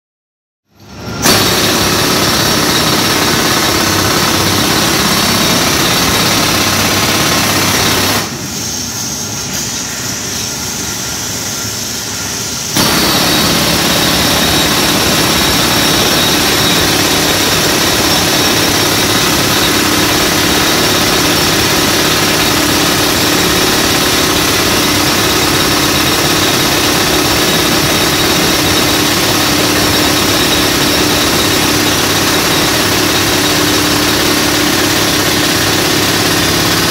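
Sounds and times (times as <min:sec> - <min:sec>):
jackhammer hammering concrete: 0:01.2 - 0:08.4, 0:12.8 - 0:36.9
compressor running: 0:01.2 - 0:36.9.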